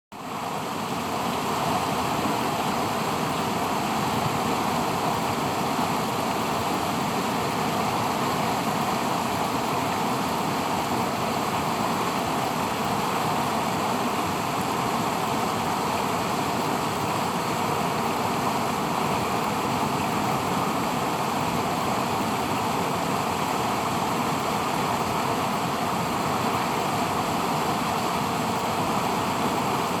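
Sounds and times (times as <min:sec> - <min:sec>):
water rushing over spillway: 0:00.2 - 0:30.0.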